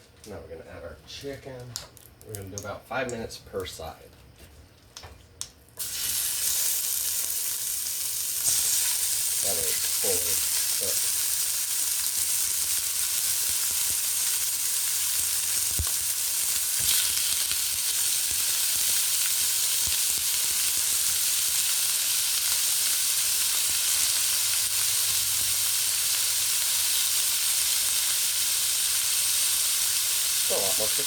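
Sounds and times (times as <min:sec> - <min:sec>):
chicken sizzling in hot oil: 0:05.8 - 0:31.0.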